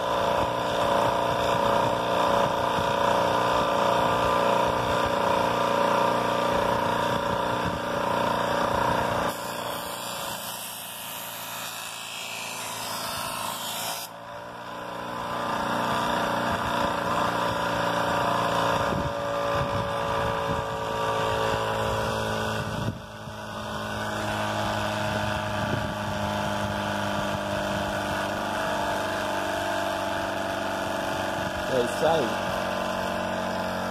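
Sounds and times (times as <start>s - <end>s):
bench grinder motor humming: 0.0s - 33.9s.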